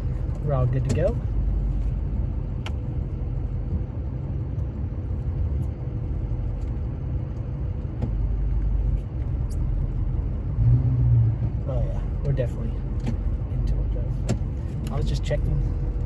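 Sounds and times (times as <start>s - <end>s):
diesel truck engine rumble: 0.0s - 16.0s.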